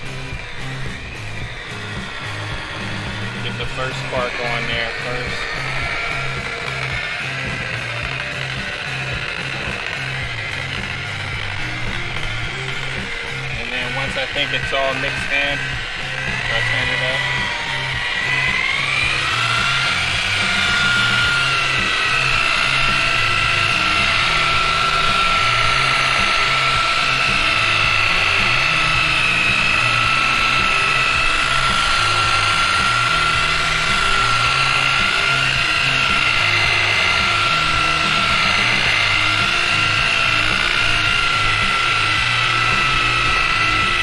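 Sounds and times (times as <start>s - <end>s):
electric polisher whining: 0.0s - 44.0s.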